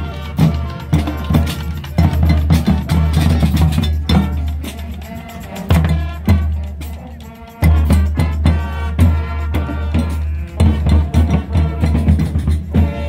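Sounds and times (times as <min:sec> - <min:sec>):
music with drum beat and bass: 0:00.0 - 0:13.0.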